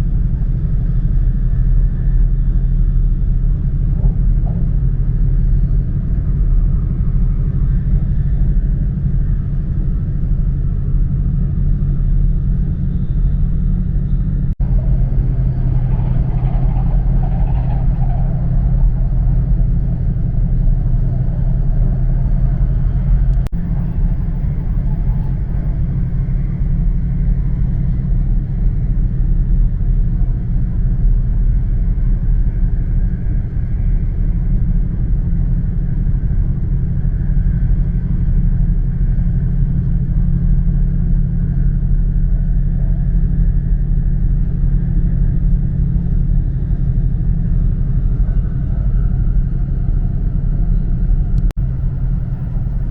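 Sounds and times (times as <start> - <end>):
train rumble inside cabin: 0.0 - 52.9.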